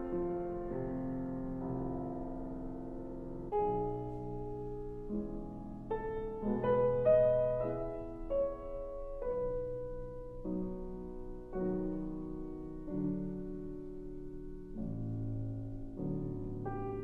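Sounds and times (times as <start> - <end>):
solo piano classical music: 0.0 - 17.0.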